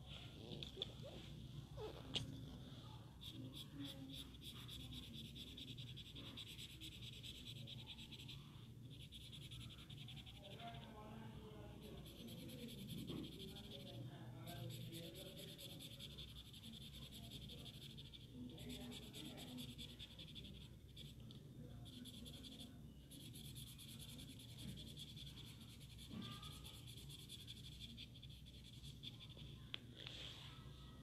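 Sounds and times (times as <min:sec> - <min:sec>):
pencil scratching on paper: 0:02.8 - 0:30.2.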